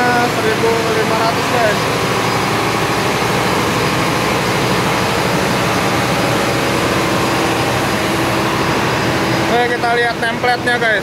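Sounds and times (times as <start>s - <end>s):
diesel generator running: 0.0s - 11.0s.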